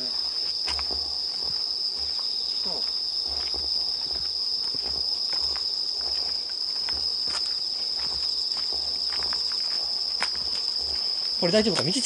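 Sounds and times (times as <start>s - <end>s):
footsteps on paved path: 0.0s - 12.0s
night insects chorus: 0.0s - 12.0s.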